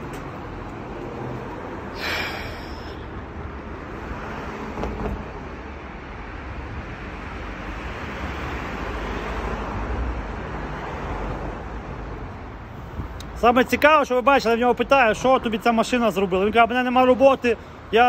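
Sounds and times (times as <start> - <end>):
city road traffic: 0.0 - 18.0.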